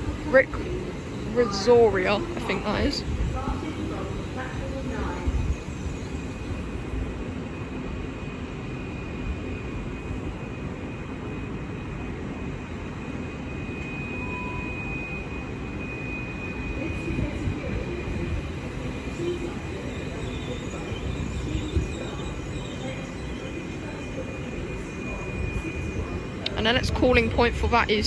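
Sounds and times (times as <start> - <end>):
high train whine: 0.0 - 28.0
train rumble: 0.0 - 28.0.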